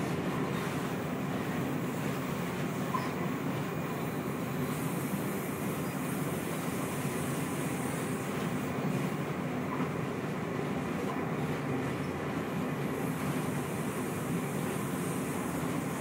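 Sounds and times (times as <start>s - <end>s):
train rumble and hiss inside carriage: 0.0s - 16.0s.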